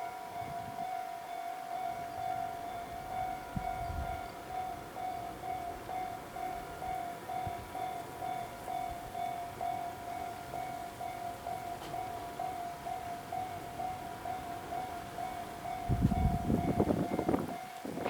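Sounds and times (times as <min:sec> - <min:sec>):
level crossing alarm clanging: 0:00.0 - 0:17.8.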